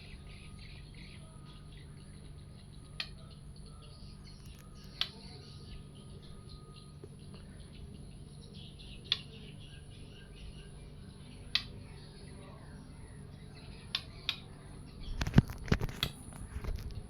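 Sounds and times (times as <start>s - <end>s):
bird chirping faintly: 0.0s - 17.0s
steady low hum: 0.0s - 17.0s.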